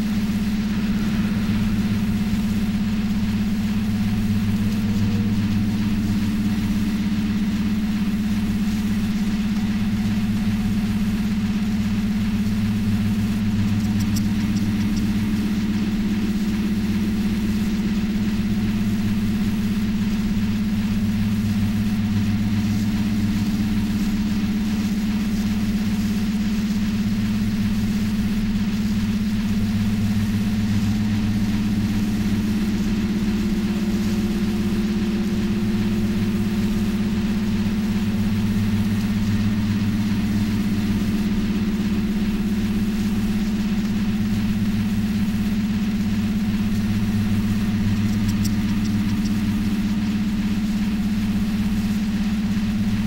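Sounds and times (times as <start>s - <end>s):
low droning synthesizer hum: 0.0s - 53.0s.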